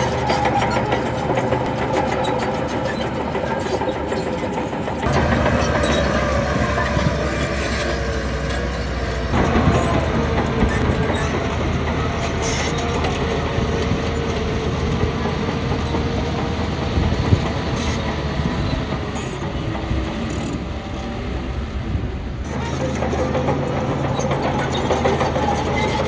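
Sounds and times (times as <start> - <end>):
crawler tracks clanking and squealing: 0.0 - 26.0
diesel engine under load: 0.0 - 26.0.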